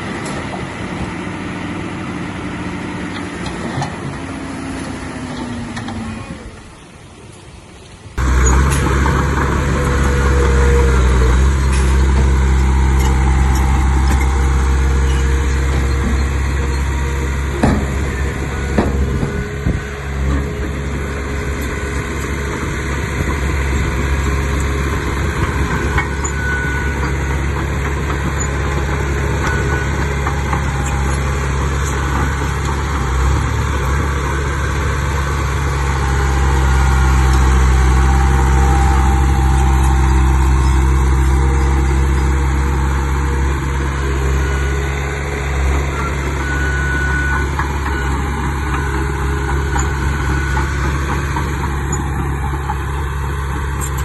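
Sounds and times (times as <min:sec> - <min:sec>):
heavy diesel engine running: 0:00.0 - 0:06.8, 0:08.2 - 0:54.0.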